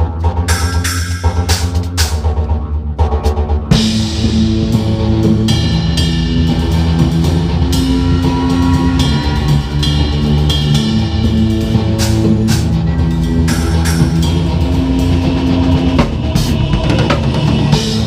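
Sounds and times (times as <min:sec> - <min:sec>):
backing track of bass and guitar: 0:00.0 - 0:18.0
drum kit beat: 0:00.0 - 0:18.0.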